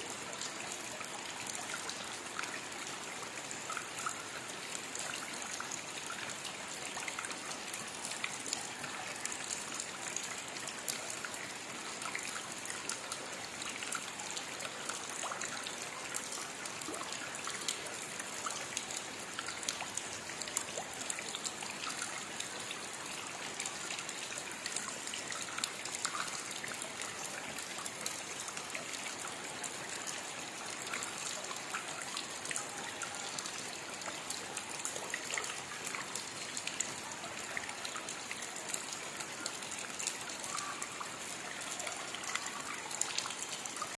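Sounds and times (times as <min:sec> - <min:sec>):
rain falling: 0:00.0 - 0:43.9
raindrops pattering: 0:00.1 - 0:43.9.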